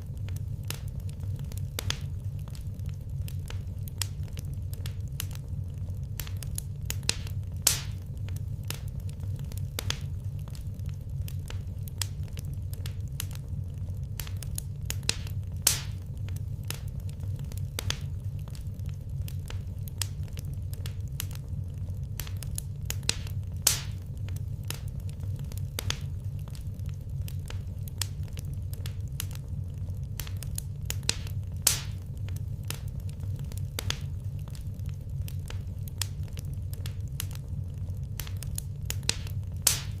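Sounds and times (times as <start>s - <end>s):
fire snapping loudly: 0.0s - 40.0s
low rumble: 0.0s - 40.0s
wood fire crackling: 0.0s - 40.0s.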